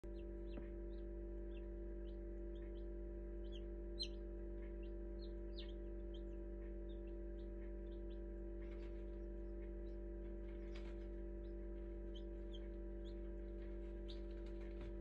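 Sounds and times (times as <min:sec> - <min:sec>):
chicks peeping: 0:00.0 - 0:15.0
steady hum: 0:00.0 - 0:15.0.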